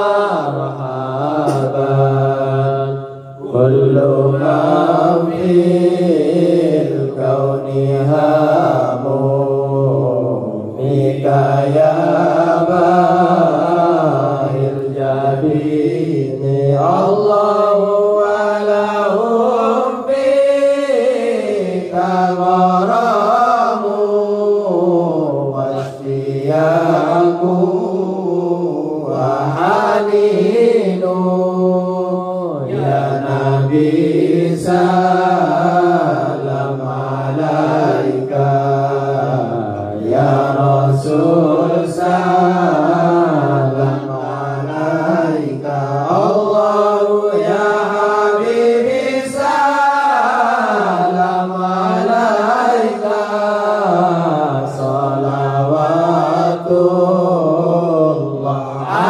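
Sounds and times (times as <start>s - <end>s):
men chanting in unison: 0.0s - 59.0s
singer on a microphone: 0.0s - 59.0s.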